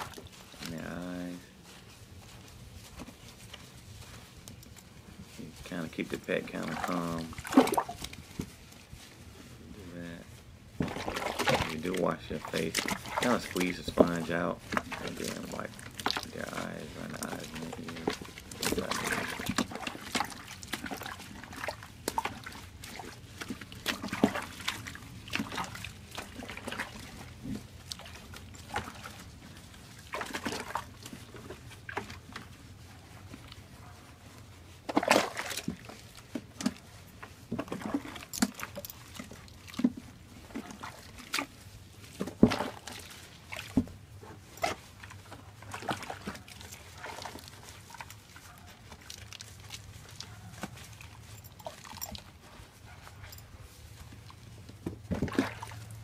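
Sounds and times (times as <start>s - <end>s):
water splashing in a tub: 0.0s - 1.0s, 5.3s - 8.4s, 10.0s - 52.7s, 53.7s - 56.0s.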